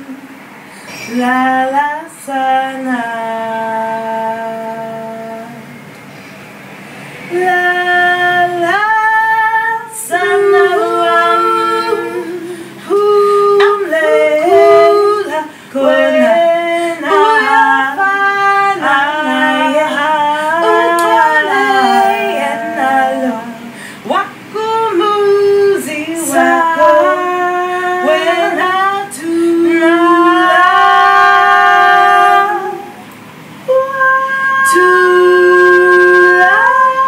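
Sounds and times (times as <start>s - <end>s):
woman singing solo: 7.3s - 37.0s.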